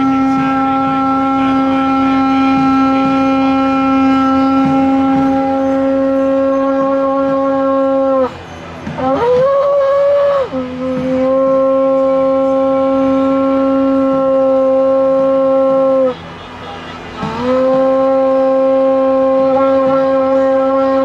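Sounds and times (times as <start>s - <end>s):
hand-held horn blowing: 0.0s - 21.0s.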